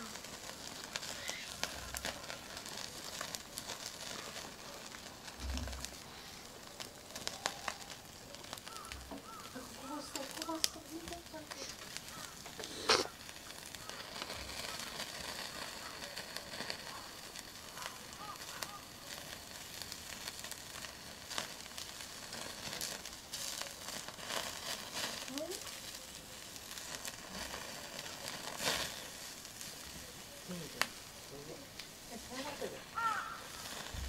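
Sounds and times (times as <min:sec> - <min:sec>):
meat sizzling with pops: 0:00.0 - 0:34.0.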